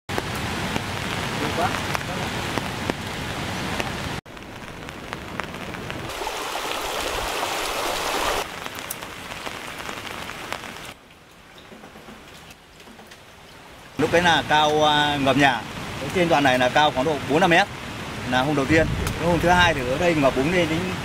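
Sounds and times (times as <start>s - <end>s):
rain falling steadily: 0.1s - 21.0s.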